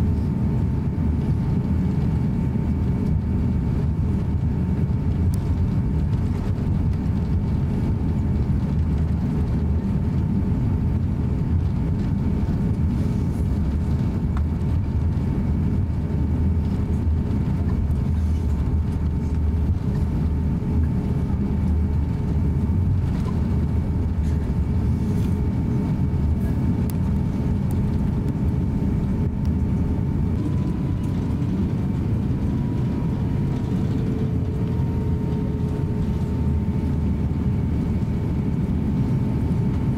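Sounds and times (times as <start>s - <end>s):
airliner engines rumbling: 0.0s - 39.9s
faint cabin hum: 0.0s - 39.9s.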